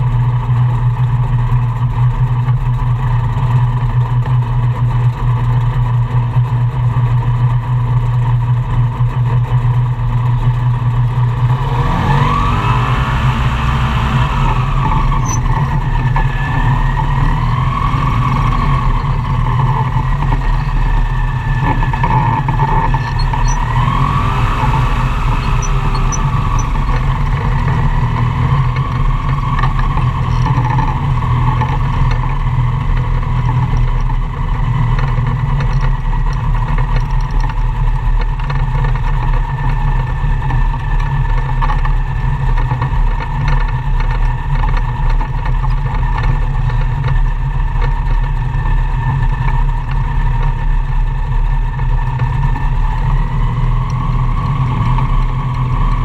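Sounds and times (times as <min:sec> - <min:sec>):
gyroplane engine running: 0:00.0 - 0:56.0.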